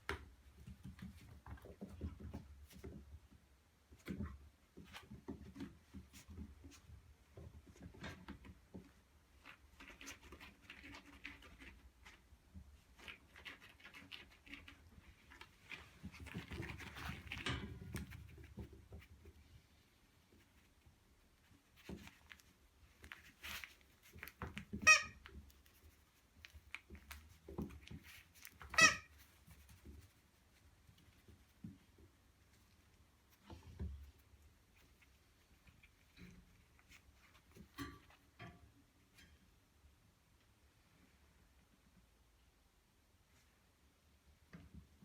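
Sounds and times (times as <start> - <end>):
puppies scrabbling and scuffing: 0.0 - 19.6, 20.3 - 38.5.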